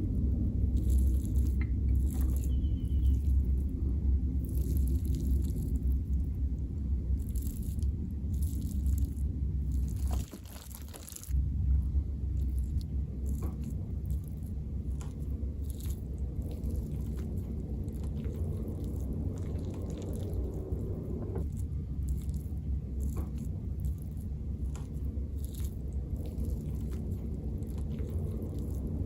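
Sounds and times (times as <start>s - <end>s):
microwave oven humming: 0.0s - 29.0s
small clicks and crackles: 0.7s - 3.7s, 4.3s - 6.2s, 7.1s - 11.4s, 12.4s - 29.0s.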